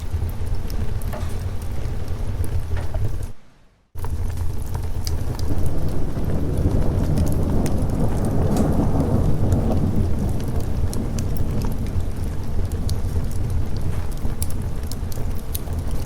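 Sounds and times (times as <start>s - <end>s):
sharp crackles: 0.0s - 16.0s
steady rain: 0.0s - 16.0s
thunder rumbling: 0.0s - 16.0s.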